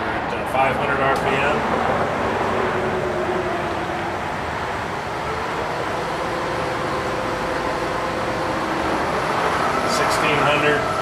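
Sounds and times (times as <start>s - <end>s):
milling machine humming with whine: 1.5s - 11.0s.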